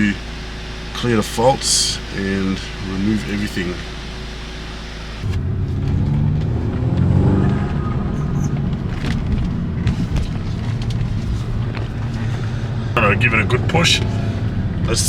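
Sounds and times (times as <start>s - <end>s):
car engine revving: 0.0s - 15.0s
road noise: 0.0s - 15.0s.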